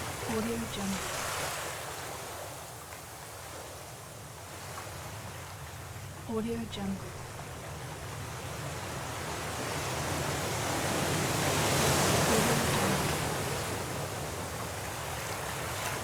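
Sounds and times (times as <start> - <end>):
stormy sea waves: 0.0 - 16.0.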